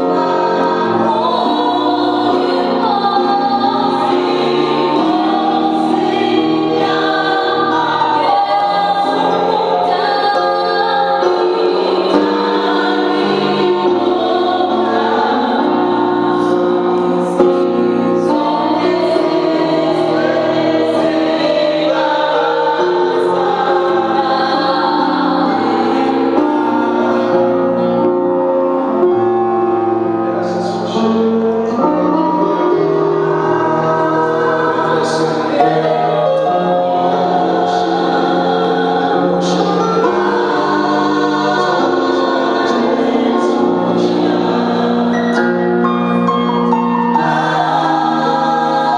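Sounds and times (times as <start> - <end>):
gospel choir singing: 0.0 - 48.9
music: 0.0 - 48.9.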